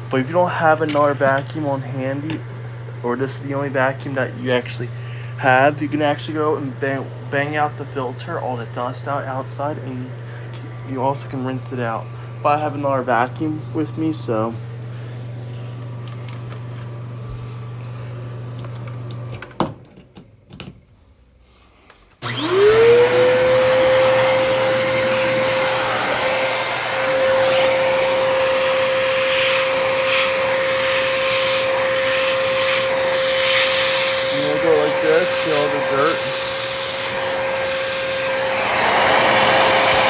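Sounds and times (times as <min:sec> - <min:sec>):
vacuum cleaner motor whining: 0:00.0 - 0:19.6, 0:22.2 - 0:40.0.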